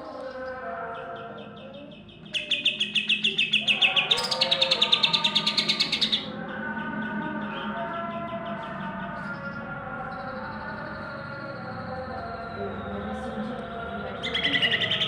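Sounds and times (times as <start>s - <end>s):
bird singing rapid trill: 0.0s - 15.0s.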